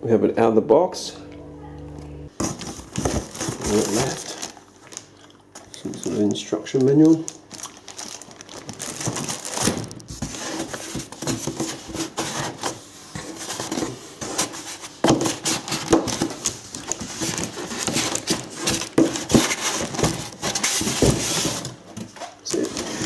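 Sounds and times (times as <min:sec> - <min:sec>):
packaging rustling: 0:02.4 - 0:23.0.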